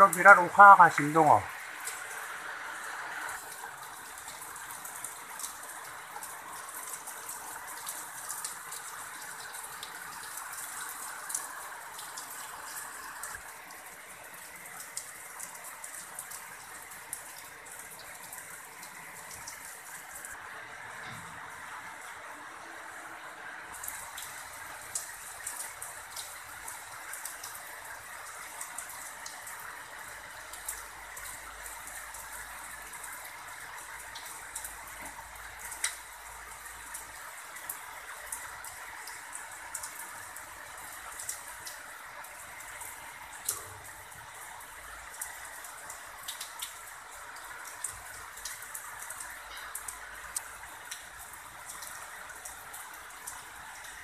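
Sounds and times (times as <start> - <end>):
heavy rain falling: 0.0 - 54.0
raindrops dripping on surfaces: 0.0 - 54.0.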